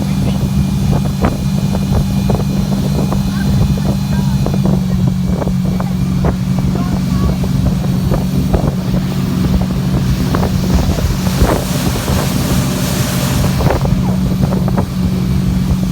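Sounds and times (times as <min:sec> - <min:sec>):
motorboat engine running: 0:00.0 - 0:15.9
wind buffeting microphone: 0:00.0 - 0:15.9.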